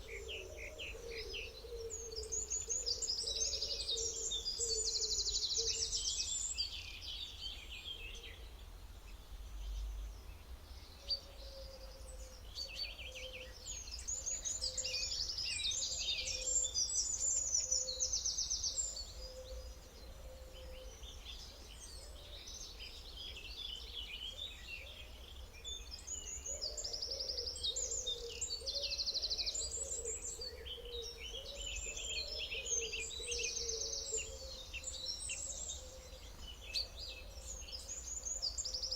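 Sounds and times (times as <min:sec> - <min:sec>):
songbirds trilling and chirping: 0:00.0 - 0:38.9.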